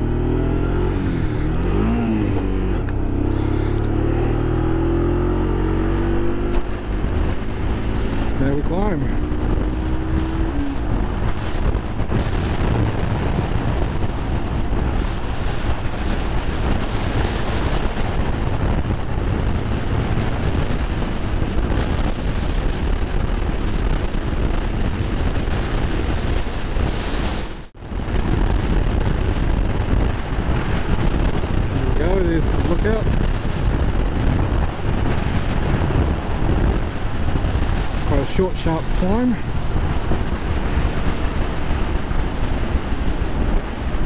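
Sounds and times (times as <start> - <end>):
wind roaring over microphone: 0.0 - 44.0.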